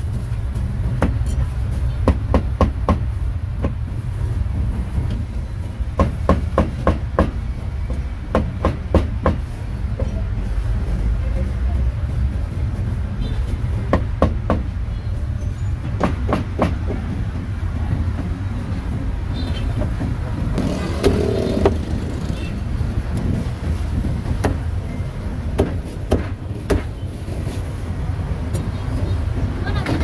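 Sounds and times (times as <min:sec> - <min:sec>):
passing traffic rumble: 0:00.0 - 0:30.0.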